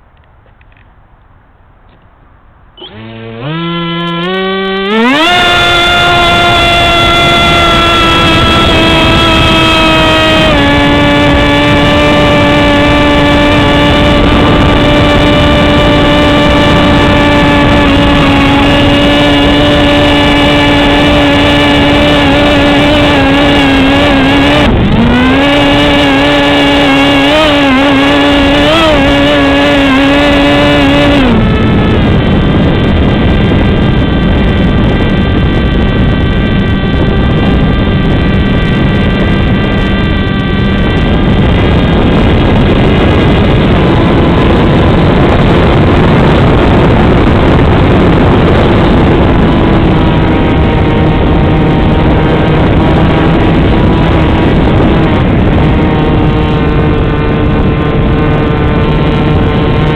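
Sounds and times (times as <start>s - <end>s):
wind rush: 0.0s - 59.9s
electric motor and propeller whine: 2.8s - 59.9s.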